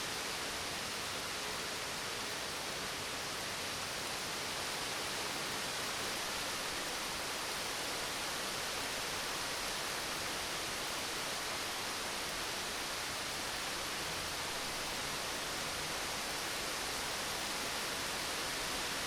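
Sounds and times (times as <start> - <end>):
rain falling steadily: 0.0 - 19.0.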